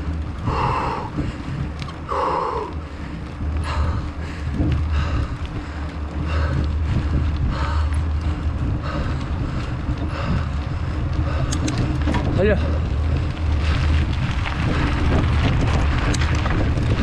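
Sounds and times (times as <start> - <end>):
rider breathing hard: 0.0 - 17.0
wind rumbling on microphone: 0.0 - 17.0.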